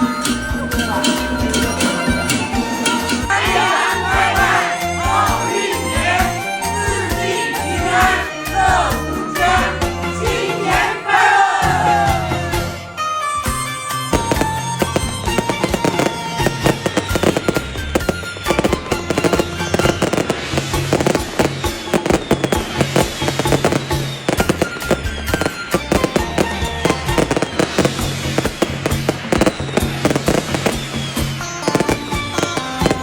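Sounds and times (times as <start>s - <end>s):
firecrackers crackling: 0.0s - 12.6s, 13.3s - 33.0s
music playing: 0.0s - 33.0s.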